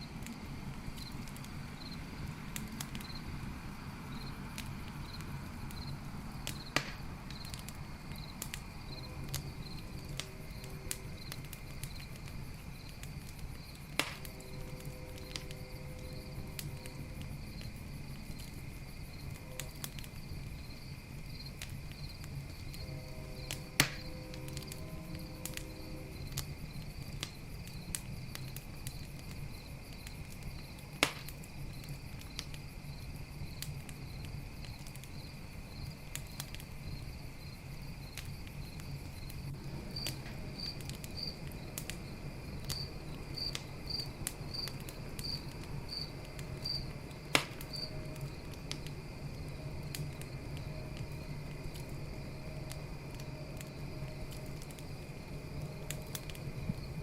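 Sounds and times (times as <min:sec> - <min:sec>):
campfire crackling: 0:00.0 - 0:57.0
crickets chirping: 0:00.0 - 0:57.0
fire popping: 0:00.0 - 0:57.0.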